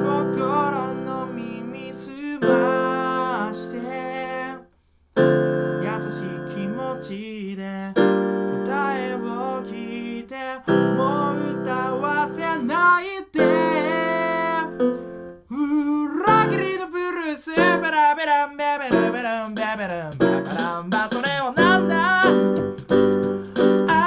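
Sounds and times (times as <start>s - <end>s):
electric keyboard chords: 0.0s - 4.6s, 5.2s - 7.2s, 8.0s - 15.5s, 16.3s - 16.9s, 17.6s - 18.1s, 18.9s - 24.0s
man singing: 0.0s - 4.7s, 5.8s - 24.0s.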